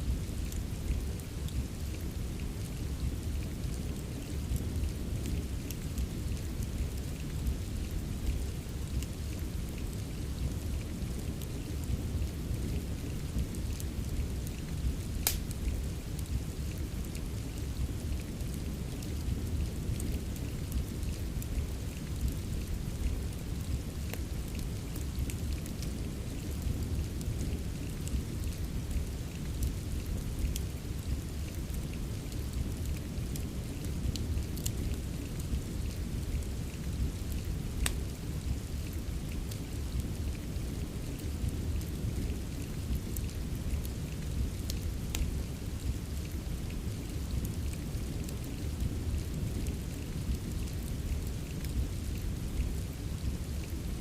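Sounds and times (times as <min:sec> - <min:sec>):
steady rain: 0:00.0 - 0:54.0
wood fire crackling: 0:00.0 - 0:54.0.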